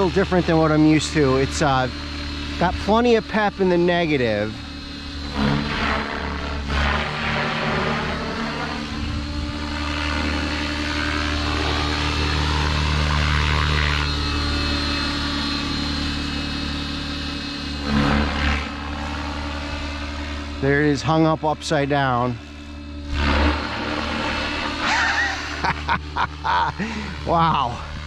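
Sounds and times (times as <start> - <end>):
rc helicopter motor and rotor whine: 0.0 - 28.0.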